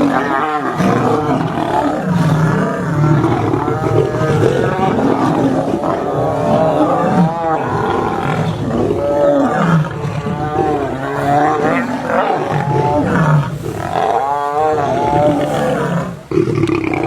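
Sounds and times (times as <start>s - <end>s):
lions roaring: 0.0s - 17.0s.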